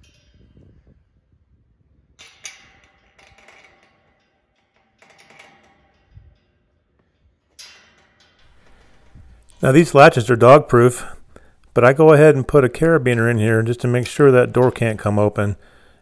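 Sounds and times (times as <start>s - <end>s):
metal gate rattling: 0.0s - 1.0s, 2.1s - 16.0s.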